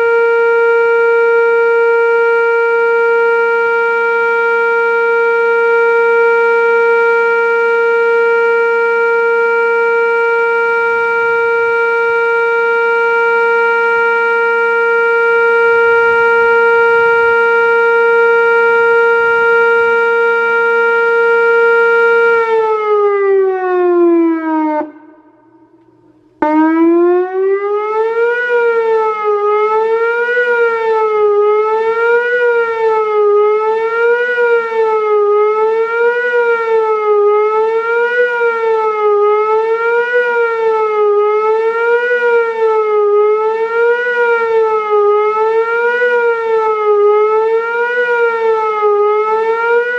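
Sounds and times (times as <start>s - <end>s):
outdoor warning siren: 0.0s - 49.9s.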